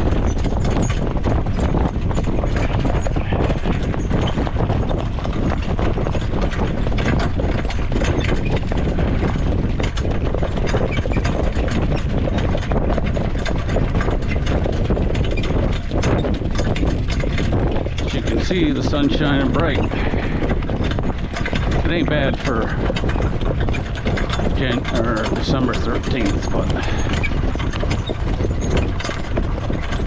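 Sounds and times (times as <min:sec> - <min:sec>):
horse hooves clip-clopping: 0:00.0 - 0:30.0
low rumble: 0:00.0 - 0:30.0.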